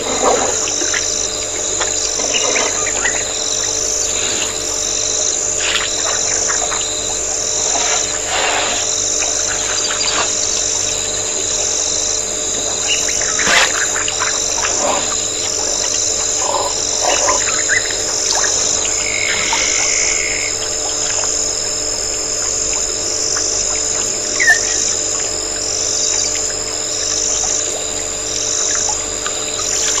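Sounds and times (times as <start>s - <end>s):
frog and insect chorus: 0.0s - 30.0s
held frog call: 0.0s - 30.0s.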